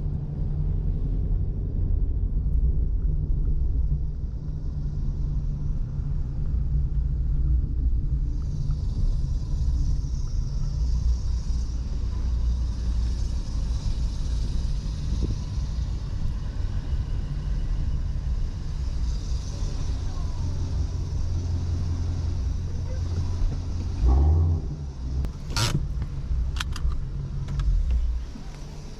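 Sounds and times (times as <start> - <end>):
car engine droning: 0.0 - 28.9
road noise hiss: 3.4 - 28.9.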